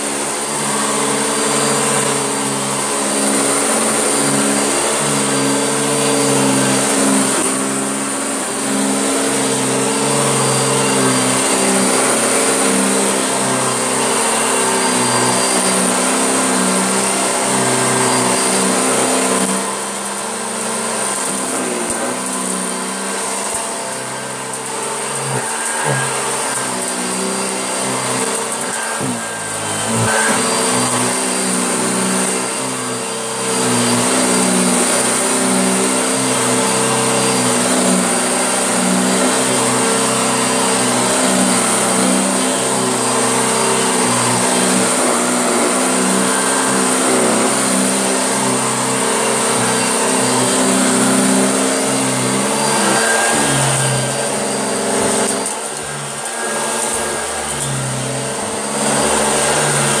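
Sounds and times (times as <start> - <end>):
vacuum cleaner motor whine: 0.0 - 60.0.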